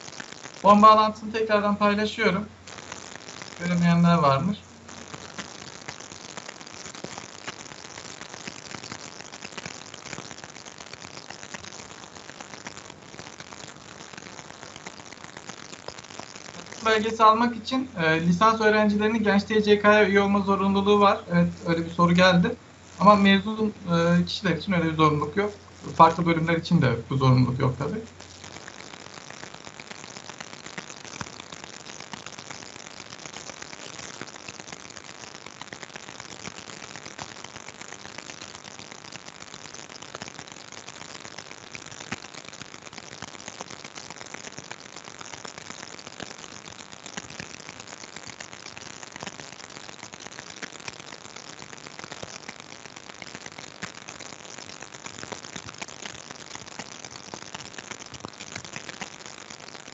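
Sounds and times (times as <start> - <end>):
steady hiss with crackles: 0.0 - 59.9.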